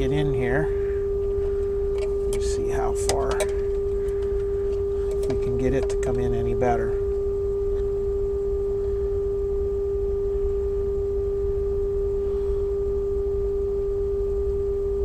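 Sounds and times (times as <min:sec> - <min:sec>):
steady pure test tone: 0:00.0 - 0:15.0.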